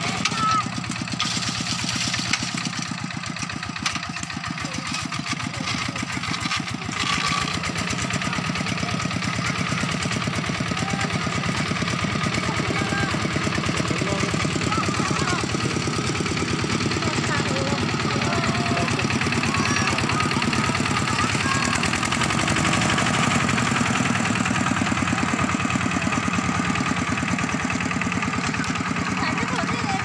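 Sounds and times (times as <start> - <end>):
diesel tractor engine chugging: 0.0 - 30.0.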